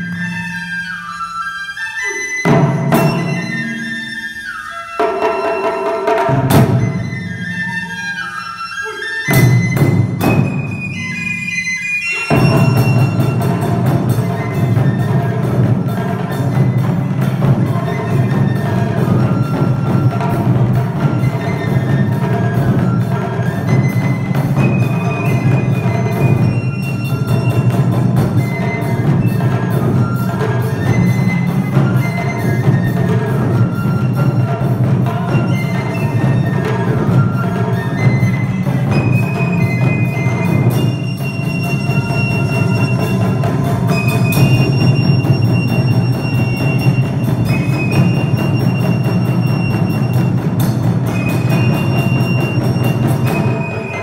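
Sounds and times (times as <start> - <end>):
bamboo flute melody: 0.0 - 54.0
taiko drums: 0.0 - 54.0.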